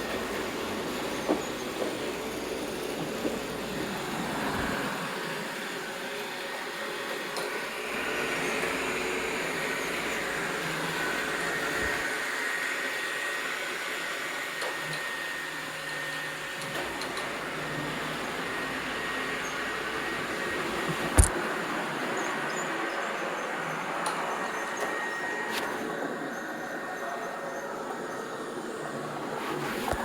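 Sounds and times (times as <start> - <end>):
robot vacuum whirring: 0.0 - 30.0.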